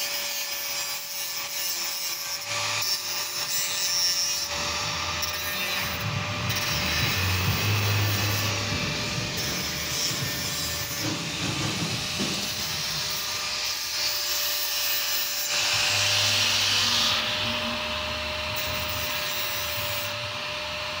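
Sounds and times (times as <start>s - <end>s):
angle grinder grinding steel: 0.0s - 21.0s.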